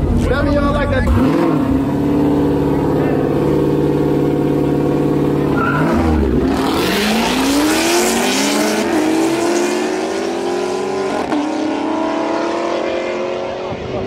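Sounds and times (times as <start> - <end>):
race car engine accelerating: 1.0 - 14.0.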